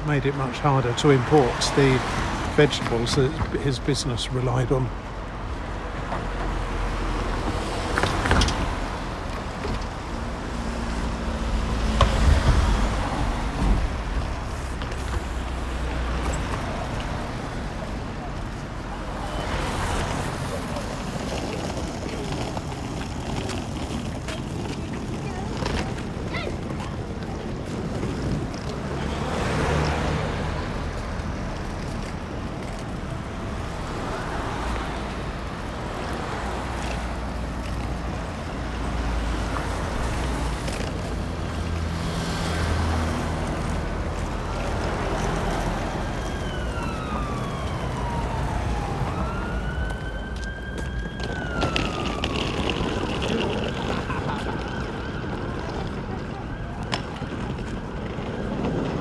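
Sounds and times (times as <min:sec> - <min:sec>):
road traffic passing: 0:00.0 - 0:59.0
emergency vehicle siren wailing: 0:06.2 - 0:59.0.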